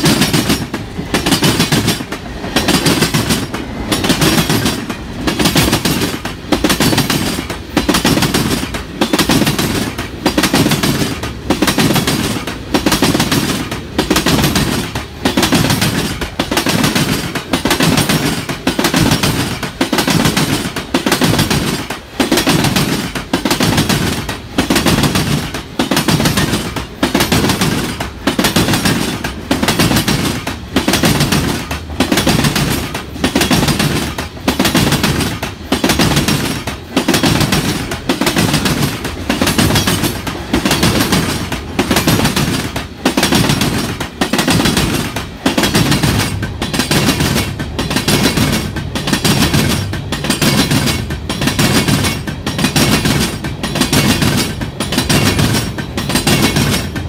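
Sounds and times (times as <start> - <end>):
rumble of wheels on rail: 0.0 - 57.0
train wheels clacking over rail joints: 0.0 - 57.0.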